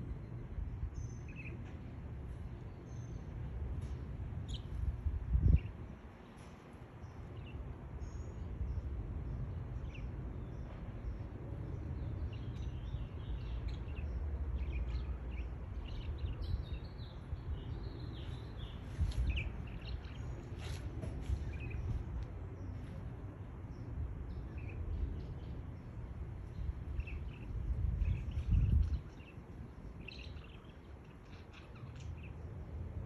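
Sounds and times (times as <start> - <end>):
low outdoor rumble: 0.0 - 33.0
small birds chirping: 0.9 - 33.0.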